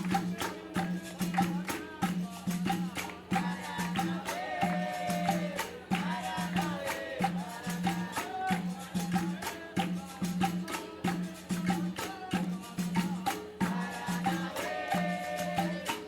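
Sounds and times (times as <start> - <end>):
shaken rattles and tambourine: 0.0 - 16.0.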